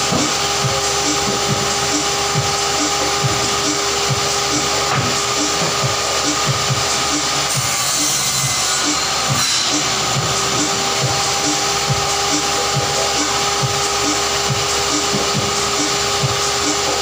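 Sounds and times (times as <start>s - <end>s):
saw motor humming: 0.0s - 17.0s.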